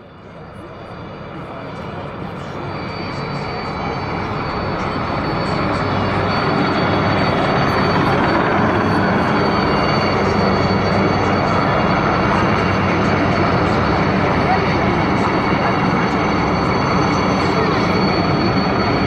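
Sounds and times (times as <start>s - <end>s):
helicopters flying past: 0.0s - 19.0s.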